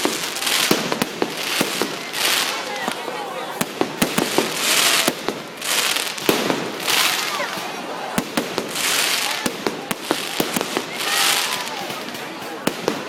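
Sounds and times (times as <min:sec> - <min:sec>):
fireworks bangs: 0:00.0 - 0:13.0
fireworks crackling hiss: 0:00.0 - 0:13.0.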